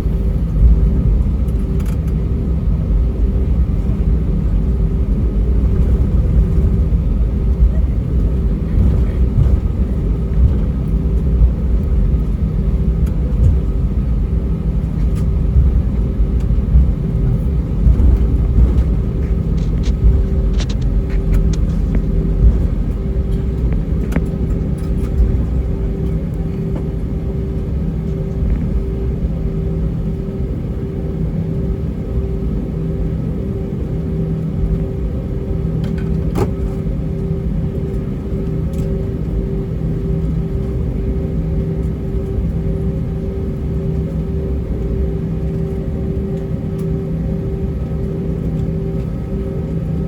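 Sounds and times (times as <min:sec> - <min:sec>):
aircraft cabin rumble during taxi: 0:00.0 - 0:50.0
pulsing hum: 0:00.0 - 0:50.0.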